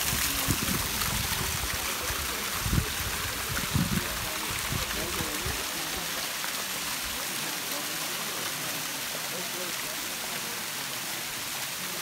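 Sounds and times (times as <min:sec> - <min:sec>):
waterfall splashing onto stones: 0:00.0 - 0:12.0.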